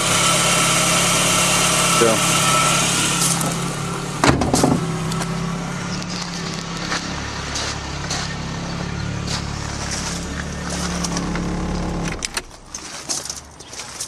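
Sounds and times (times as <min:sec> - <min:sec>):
car engine idling: 0:00.0 - 0:13.6.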